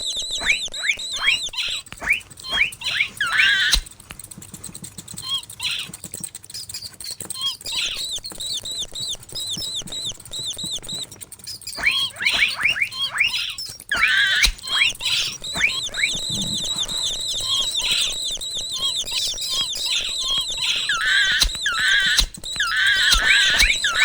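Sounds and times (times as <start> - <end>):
mouse squeaking: 0.0 - 24.0.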